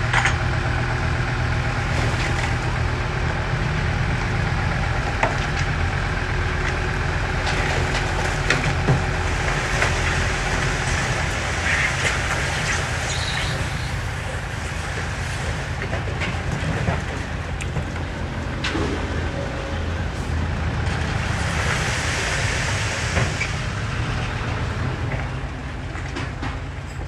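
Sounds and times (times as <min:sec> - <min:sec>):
heavy diesel engines running: 0:00.0 - 0:27.0.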